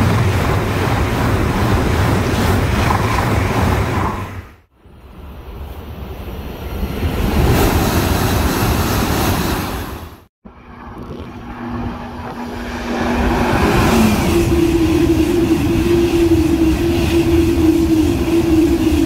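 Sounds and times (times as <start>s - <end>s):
high-speed train rushing past: 0.0s - 19.0s
train running gear hum: 0.0s - 19.0s.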